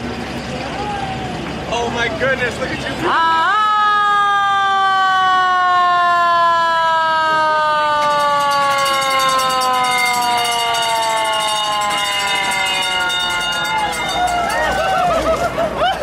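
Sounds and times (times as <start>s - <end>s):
fire engine siren wailing: 3.0s - 16.0s.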